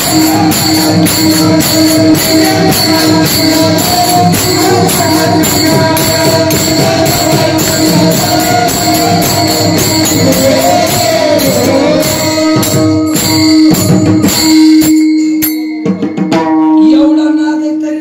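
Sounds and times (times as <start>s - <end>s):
held drone note: 0.0s - 15.2s
jingling hand cymbals: 0.0s - 17.2s
drumming in fast rhythm: 0.0s - 17.3s.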